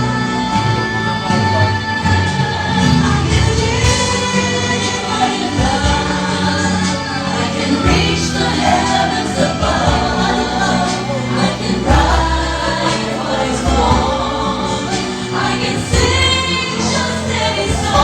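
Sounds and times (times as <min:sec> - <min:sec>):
backing choir: 0:00.0 - 0:18.0
person singing: 0:00.0 - 0:18.0
steady bass line: 0:00.0 - 0:18.0.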